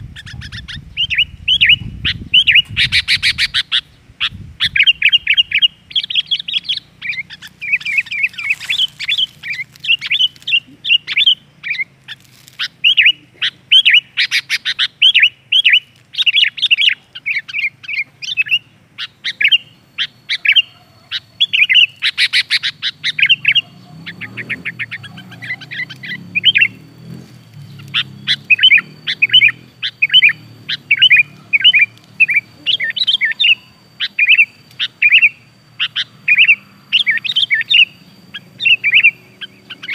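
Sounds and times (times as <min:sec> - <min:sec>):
bird chirping: 0:00.0 - 0:39.9
bird rattling calls: 0:00.0 - 0:39.9.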